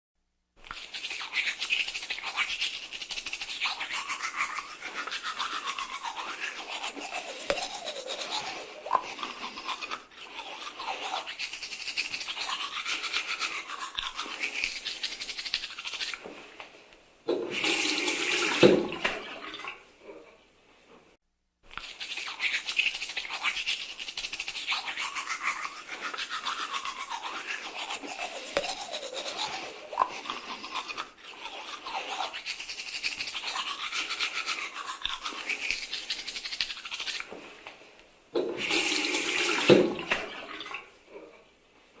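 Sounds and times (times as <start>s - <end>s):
toothbrush scrubbing teeth: 0.6s - 16.6s, 17.5s - 18.8s, 21.7s - 37.6s, 38.4s - 40.9s.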